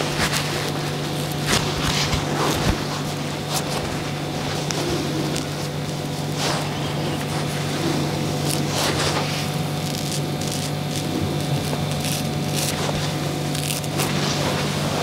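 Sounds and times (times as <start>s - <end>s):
razor scraping stubble: 0.0s - 15.0s
steady low hum: 0.0s - 15.0s.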